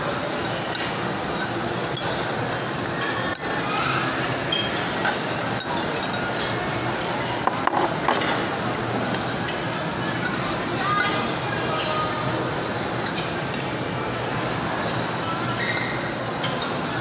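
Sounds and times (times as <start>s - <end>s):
cutlery clinking against bowl: 0.0s - 12.2s, 13.0s - 14.2s, 15.2s - 17.0s
crowd noise: 0.0s - 17.0s.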